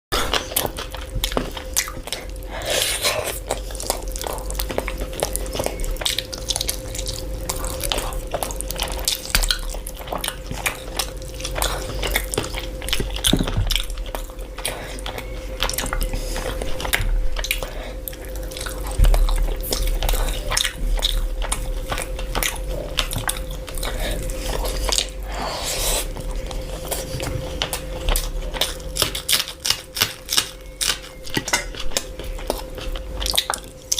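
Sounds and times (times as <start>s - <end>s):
faint steady hum: 0.1s - 33.9s
crunchy food being chewed: 0.2s - 33.9s.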